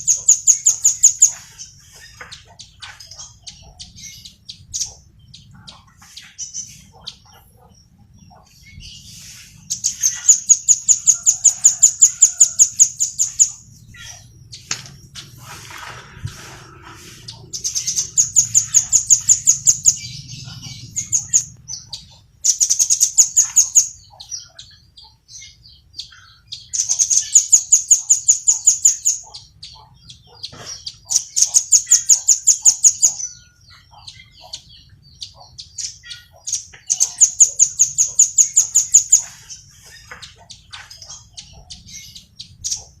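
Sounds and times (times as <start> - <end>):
soft bird chirps: 0.0 - 43.0
songbird trilling: 0.0 - 43.0.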